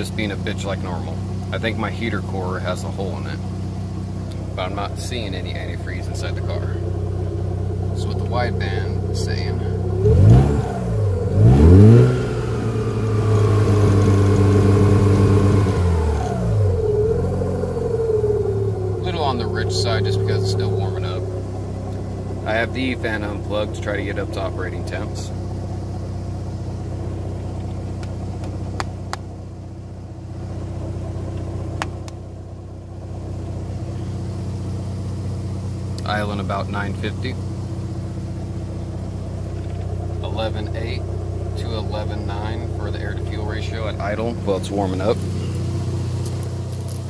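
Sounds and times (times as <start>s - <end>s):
rotary engine revving: 0.0s - 47.0s.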